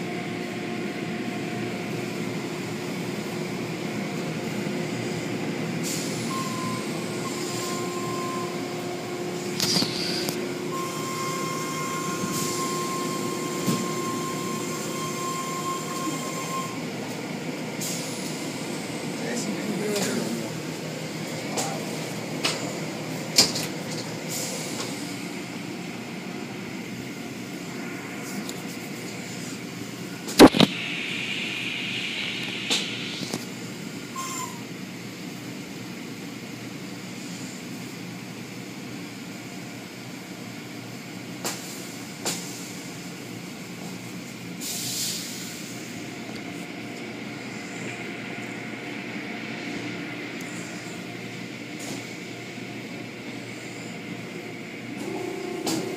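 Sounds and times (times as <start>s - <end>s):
car wash machinery running: 0.0s - 55.9s.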